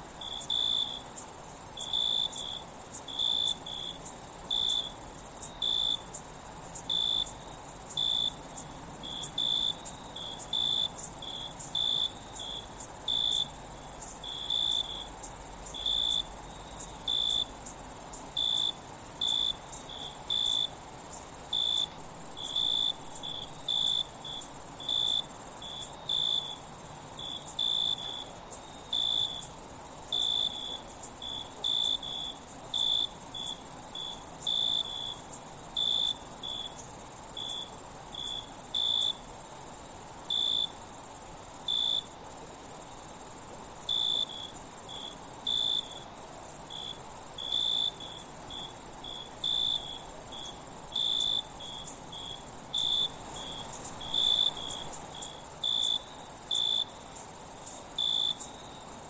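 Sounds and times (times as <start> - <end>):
cricket chirps: 0.0 - 59.0.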